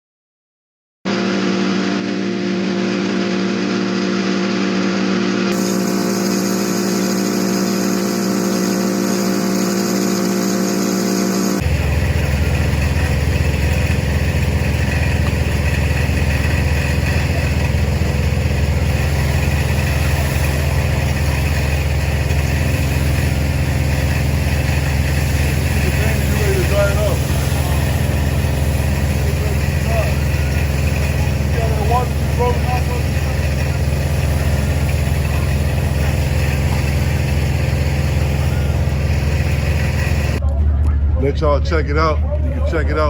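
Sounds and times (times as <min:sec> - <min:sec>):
motor humming: 0:01.1 - 0:40.4.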